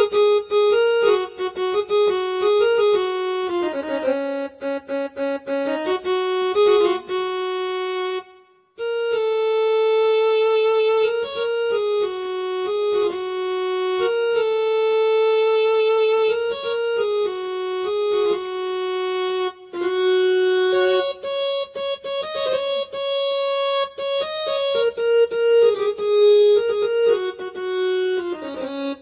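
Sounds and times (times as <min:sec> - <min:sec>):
electronic keyboard melody: 0:00.0 - 0:29.0.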